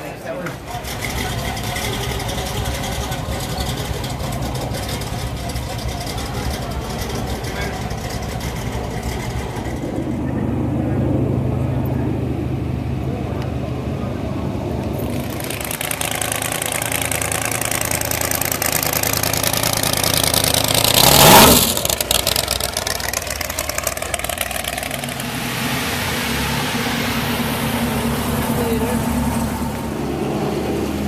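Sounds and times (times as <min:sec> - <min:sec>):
car driving past: 0:00.6 - 0:31.0.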